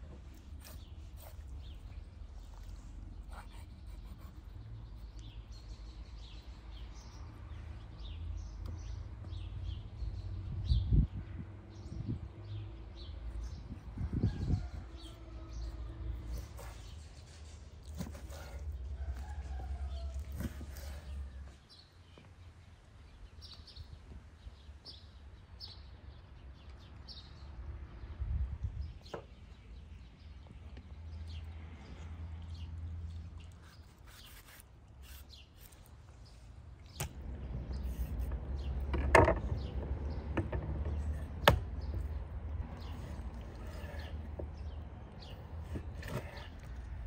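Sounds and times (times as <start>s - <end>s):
small birds chirping: 0.2s - 47.0s.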